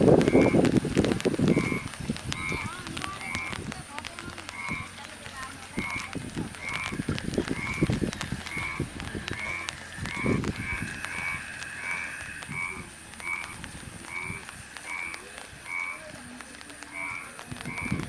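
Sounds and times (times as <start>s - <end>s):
low rumble: 0.0s - 15.7s
frog croaking: 0.1s - 18.0s.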